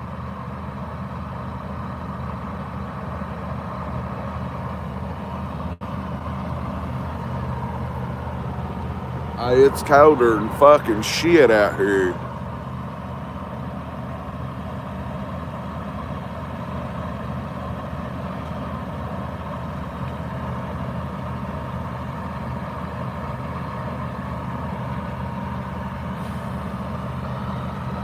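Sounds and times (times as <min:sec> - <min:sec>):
fire truck engine idling: 0:00.0 - 0:28.0.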